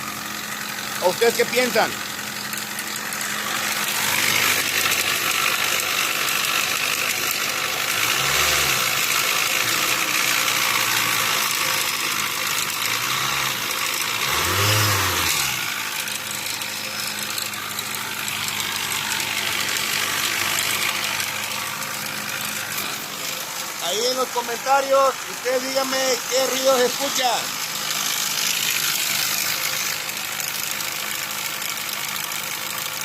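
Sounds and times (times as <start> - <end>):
mechanical engine noise: 0.0 - 31.0
car engine running: 0.0 - 33.0.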